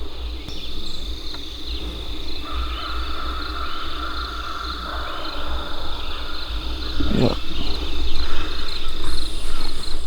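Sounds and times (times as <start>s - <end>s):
lower chorus of insects or frogs: 0.0s - 10.0s.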